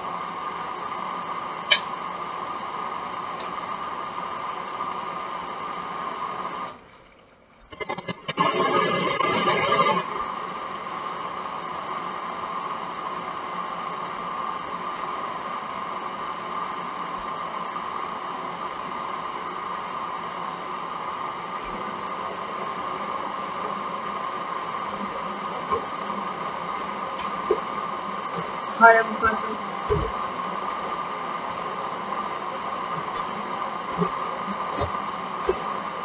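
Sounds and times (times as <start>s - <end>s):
washing machine filling with water: 0.0s - 36.0s.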